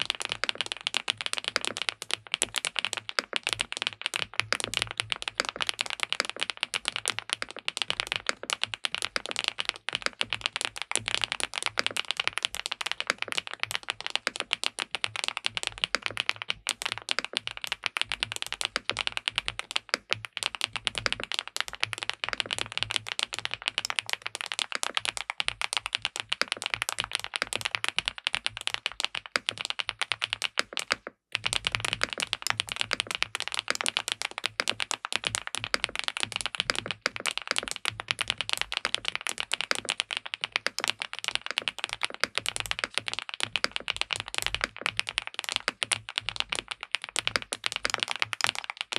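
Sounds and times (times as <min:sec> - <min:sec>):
mechanical keyboard typing: 0:00.0 - 0:48.9.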